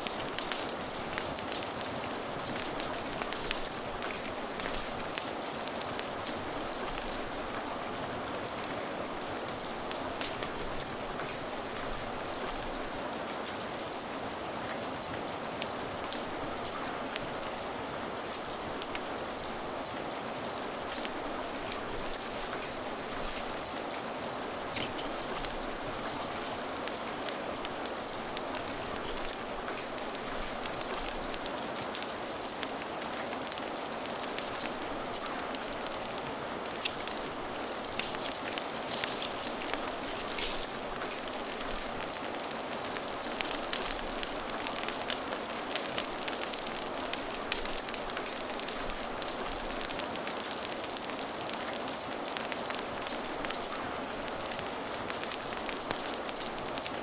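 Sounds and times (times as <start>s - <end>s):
steady rain falling: 0.0s - 57.0s
wood fire crackling: 0.0s - 57.0s.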